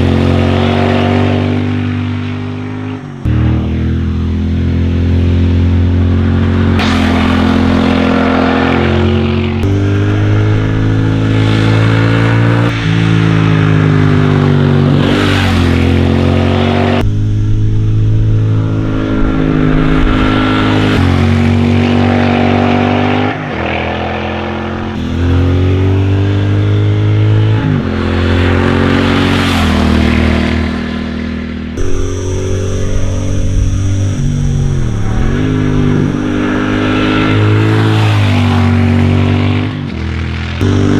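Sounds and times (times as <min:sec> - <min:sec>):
motorcycle engine changing gears: 0:03.2 - 0:22.7, 0:24.7 - 0:39.7, 0:40.6 - 0:40.9.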